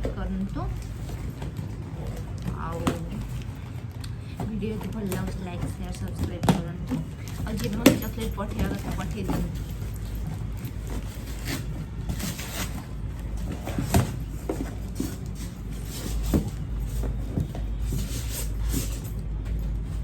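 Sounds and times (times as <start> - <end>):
packaging rustling and crinkling: 0.0 - 20.0.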